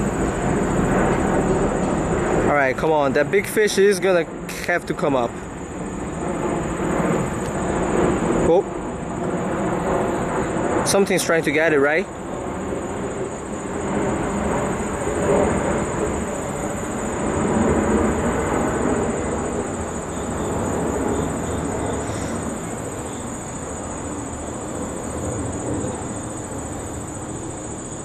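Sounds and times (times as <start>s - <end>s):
distant rumbling: 0.0s - 26.5s
high-pitched insect drone: 0.0s - 28.0s.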